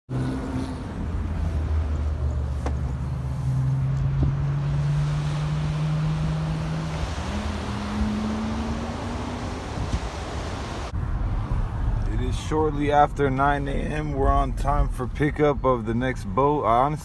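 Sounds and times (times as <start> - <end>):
truck engine and road hum: 0.1 - 17.0.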